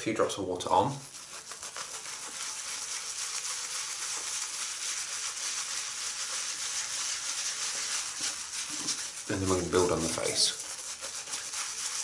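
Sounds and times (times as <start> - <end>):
shaving brush lathering: 0.1 - 12.0.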